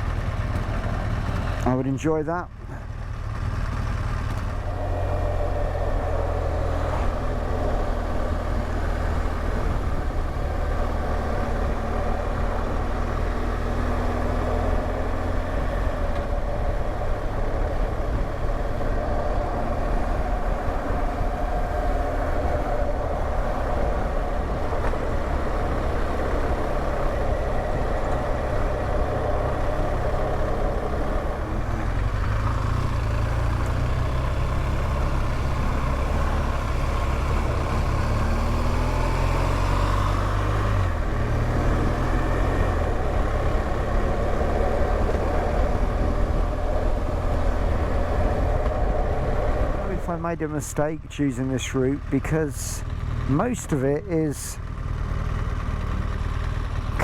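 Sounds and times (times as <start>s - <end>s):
motorcycle engine running: 0.0s - 50.1s, 52.8s - 57.0s.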